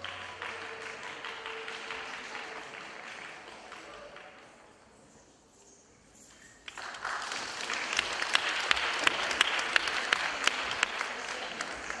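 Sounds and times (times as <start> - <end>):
audience applause: 0.0 - 4.6, 6.7 - 12.0.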